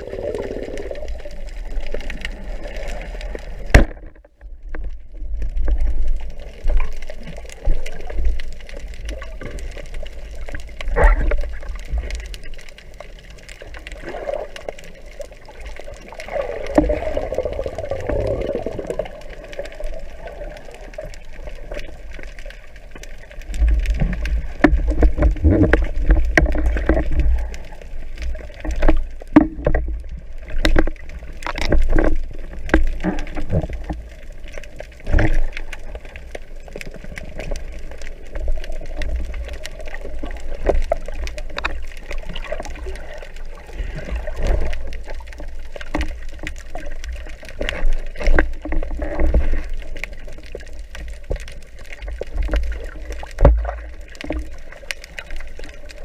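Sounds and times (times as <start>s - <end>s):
muffled underwater water rush: 0.0s - 56.0s.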